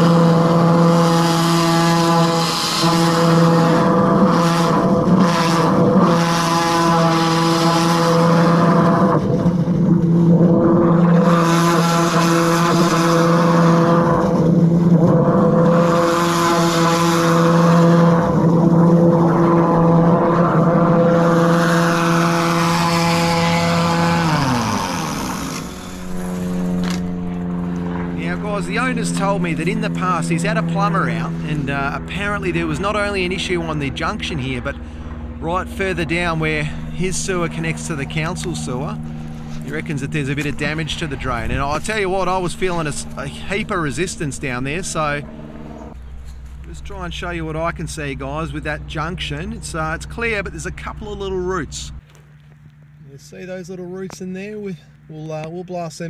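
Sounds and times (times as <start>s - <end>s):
drain jetter engine running: 0.0s - 52.0s.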